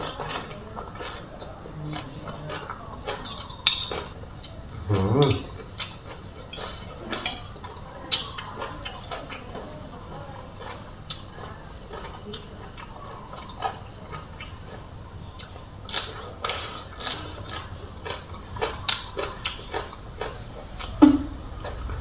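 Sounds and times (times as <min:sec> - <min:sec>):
wet chewing and lip smacking: 0:00.0 - 0:22.0.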